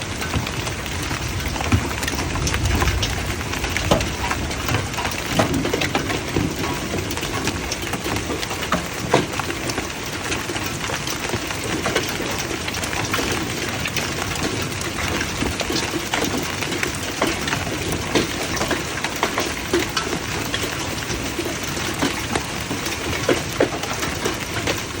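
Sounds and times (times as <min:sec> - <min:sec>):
hailstones striking hard surfaces: 0:00.0 - 0:25.0.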